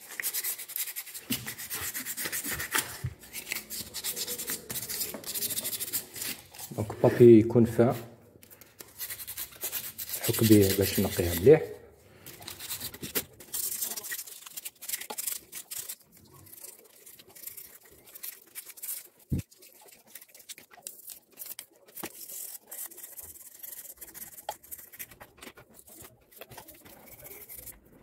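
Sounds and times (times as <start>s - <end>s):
bristle brush scrubbing metal: 0.0s - 6.8s, 8.8s - 11.6s, 12.3s - 27.9s.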